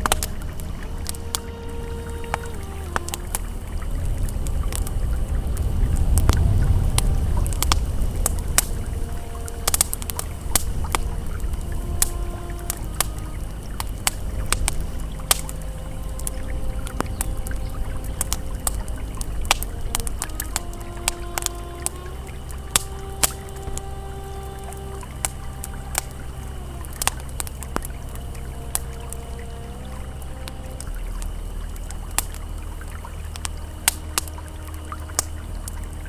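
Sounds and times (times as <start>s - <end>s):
campfire crackling: 0.0s - 36.0s
river flowing: 0.0s - 36.0s
soft ambient tones: 0.0s - 36.0s.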